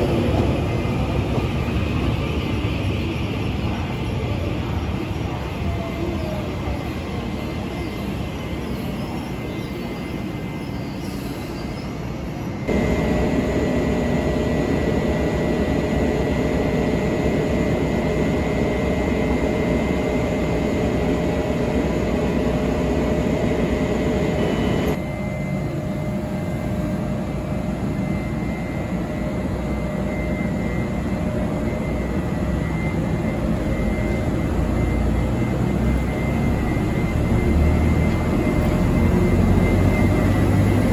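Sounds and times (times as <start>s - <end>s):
electric locomotive running: 0.0s - 40.9s
train humming with electrical whine: 0.0s - 40.9s.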